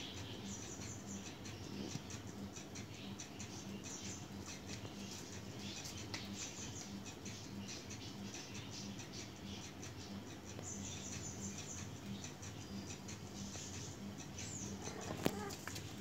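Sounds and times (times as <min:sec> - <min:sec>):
high-pitched chirps and ticks: 0:00.0 - 0:16.0.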